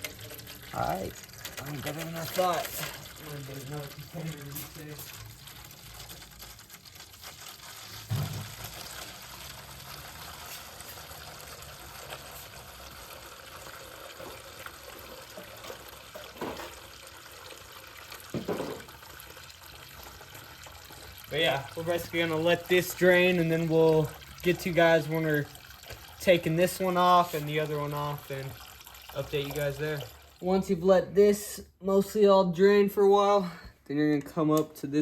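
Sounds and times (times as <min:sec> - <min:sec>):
liquid pouring into a container: 0:00.0 - 0:30.8.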